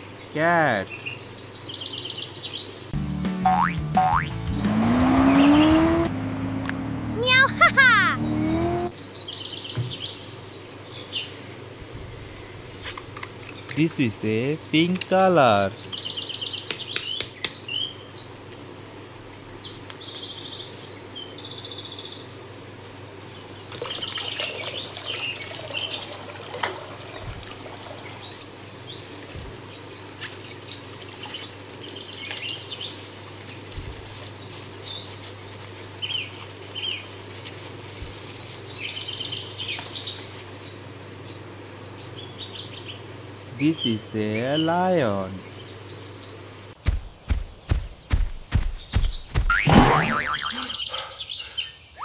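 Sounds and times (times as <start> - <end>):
small birds chirping and twittering: 0.0 - 3.0, 4.4 - 52.0.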